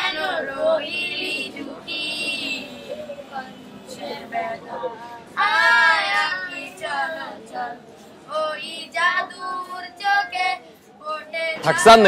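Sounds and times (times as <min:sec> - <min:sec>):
child singing: 0:00.0 - 0:11.9.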